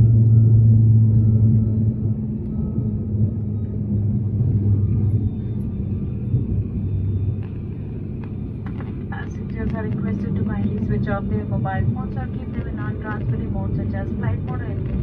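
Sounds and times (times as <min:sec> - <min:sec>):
turboprop engines droning in cabin: 0:00.0 - 0:15.0.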